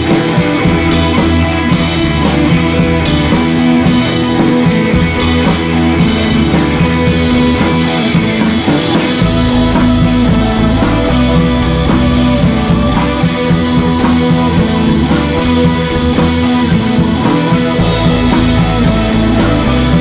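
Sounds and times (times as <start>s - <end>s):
deep bass: 0.0s - 20.0s
rock music with guitar and drums: 0.0s - 20.0s.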